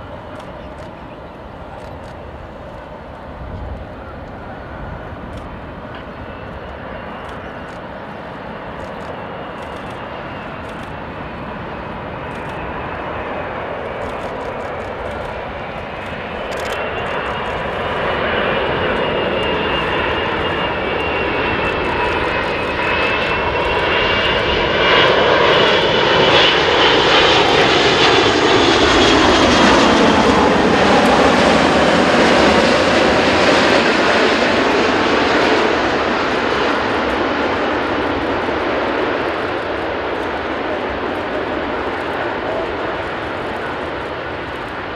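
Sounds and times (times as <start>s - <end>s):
jet engines whining overhead: 0.0s - 44.9s.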